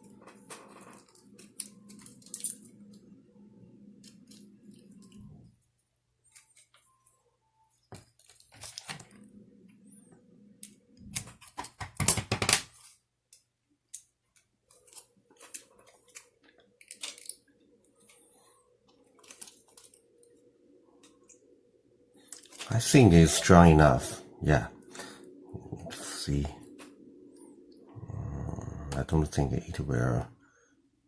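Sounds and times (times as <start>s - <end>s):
faint hum: 0.0s - 12.2s, 13.1s - 31.0s.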